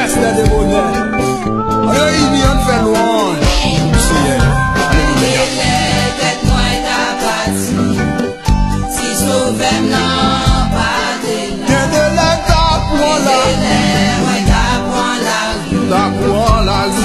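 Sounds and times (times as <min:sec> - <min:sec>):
backing band: 0:00.0 - 0:17.0
choir singing gospel: 0:01.9 - 0:17.0.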